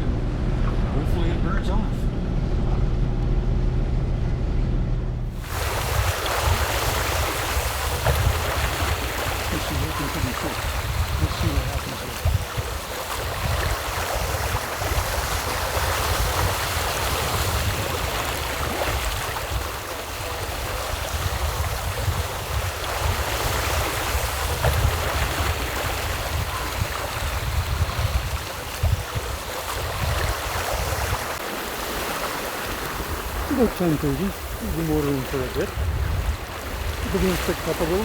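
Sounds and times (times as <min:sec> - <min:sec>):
wind buffeting microphone: 0:04.6 - 0:38.0
water sloshing along hull: 0:05.2 - 0:38.0.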